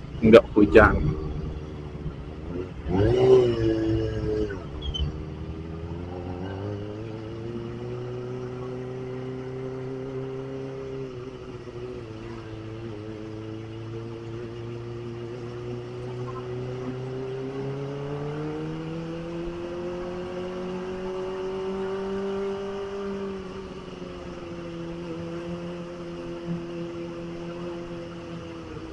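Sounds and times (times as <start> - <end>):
motorcycle engine cruising: 0.0 - 28.9.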